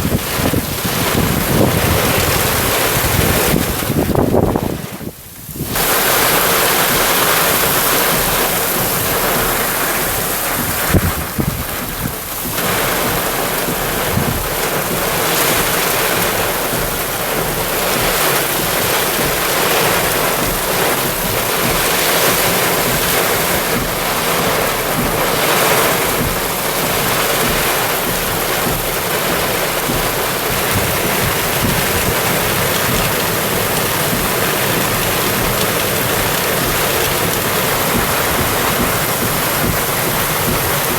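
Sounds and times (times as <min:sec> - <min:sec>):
rainwater runoff rushing: 0:00.0 - 0:40.9.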